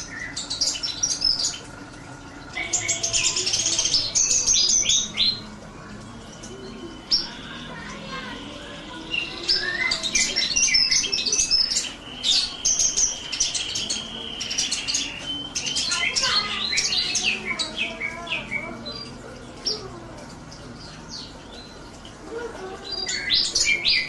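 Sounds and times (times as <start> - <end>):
small bird chirping and twittering: 0.0 - 5.5, 6.4 - 20.0, 22.8 - 24.0
steady high bird trill: 0.0 - 20.0, 22.8 - 24.0.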